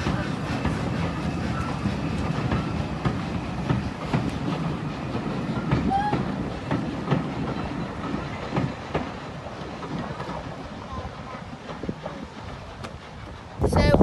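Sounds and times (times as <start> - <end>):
wheels clicking on track: 0.0 - 13.4
train wheel squeal: 0.0 - 13.6
train rumbling past: 0.0 - 14.0.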